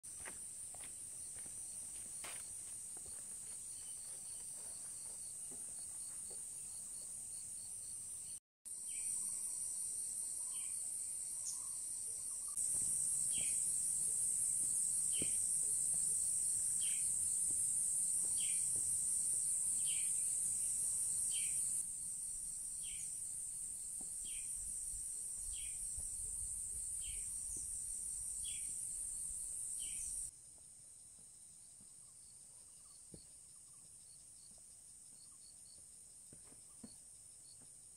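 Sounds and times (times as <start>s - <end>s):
chorus of forest insects: 0.1s - 37.9s.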